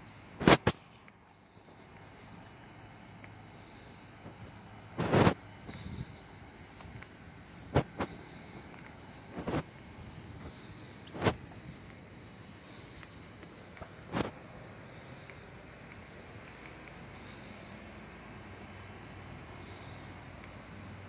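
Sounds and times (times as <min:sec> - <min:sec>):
high-pitched insect buzz: 0:00.0 - 0:21.0.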